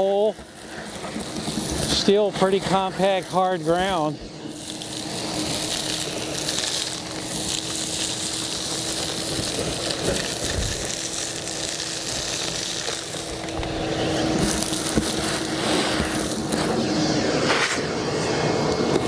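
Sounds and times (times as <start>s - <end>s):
grit knocking up vacuum hose: 0.0s - 17.9s
shop vacuum humming: 0.0s - 19.0s.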